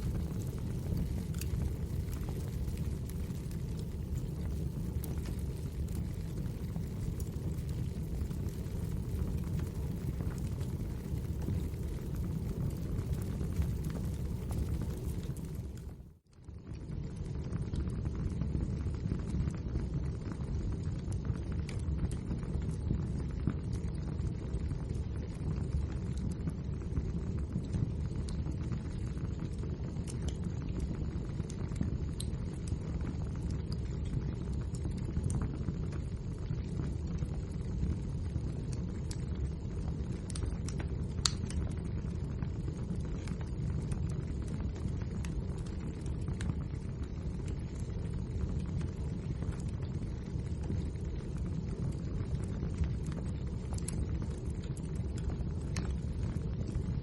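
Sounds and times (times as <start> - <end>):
wood fire crackling: 0.0 - 16.8, 24.8 - 57.0.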